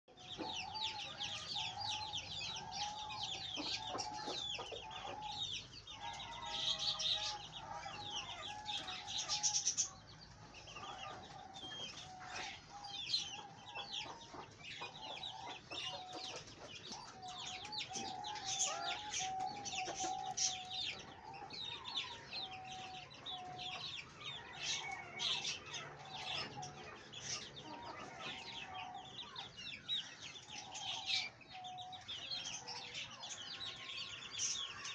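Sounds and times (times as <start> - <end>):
hens clucking: 0.1 - 34.9.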